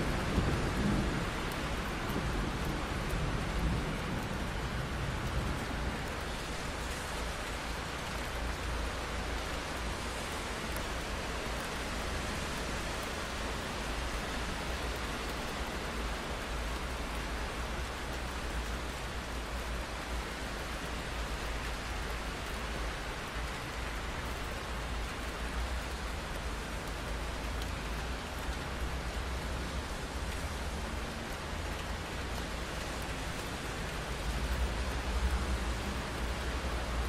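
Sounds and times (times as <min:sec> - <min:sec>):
rain on a window pane: 0:00.0 - 0:37.0.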